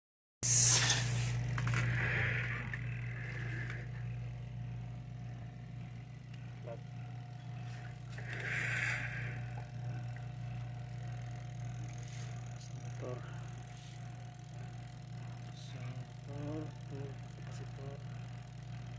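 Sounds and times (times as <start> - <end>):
low electrical hum: 0.4 - 18.9.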